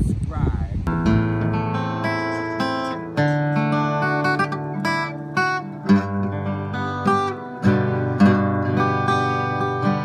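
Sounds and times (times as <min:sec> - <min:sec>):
acoustic guitar strumming chords: 0:00.9 - 0:10.0.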